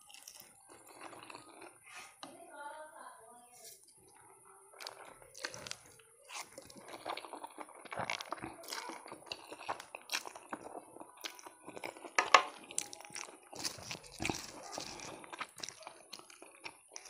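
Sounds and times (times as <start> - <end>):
slurping and chewing noodles: 0.0 - 2.2, 3.9 - 17.0.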